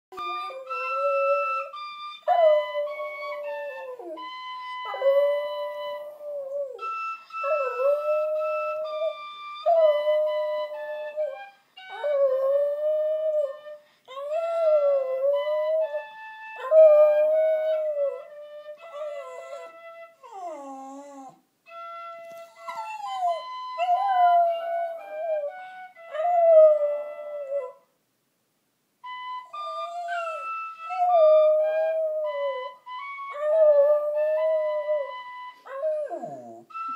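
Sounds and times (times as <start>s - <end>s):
penny whistle melody: 0.1s - 21.1s, 21.7s - 27.8s, 29.0s - 36.9s.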